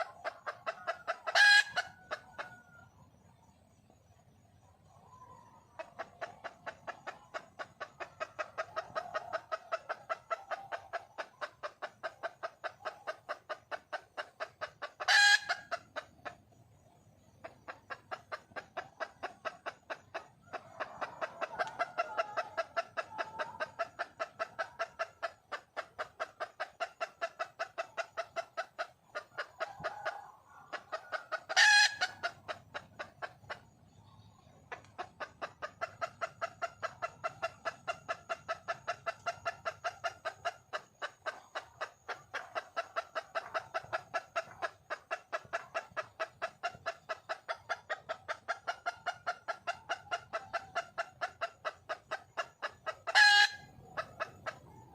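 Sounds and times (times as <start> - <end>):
hen clucking rapidly: 0.0 - 4.2, 4.8 - 54.9.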